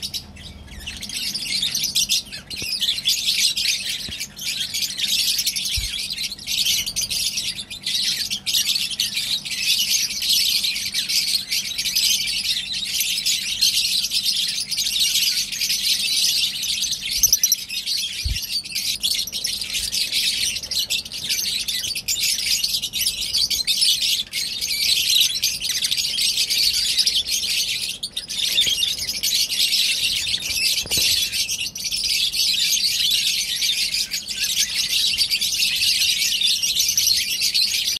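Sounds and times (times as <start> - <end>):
birds chattering and chirping: 0.0 - 37.9.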